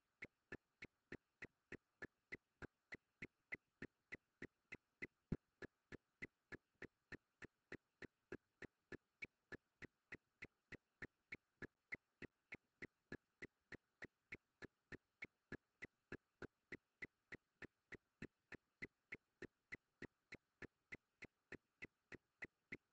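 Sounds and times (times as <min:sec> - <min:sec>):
faint evenly spaced ticks: 0:00.0 - 0:22.9.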